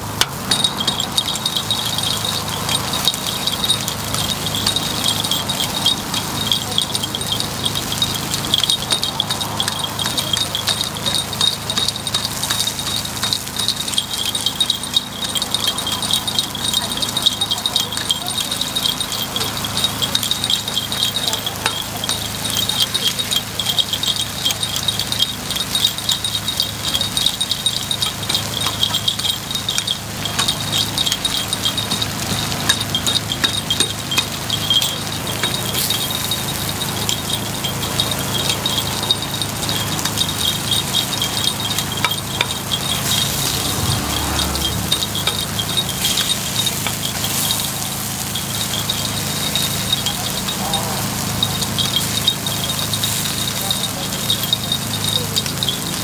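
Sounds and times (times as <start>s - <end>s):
metal picks clinking on griddle: 0.0s - 56.0s.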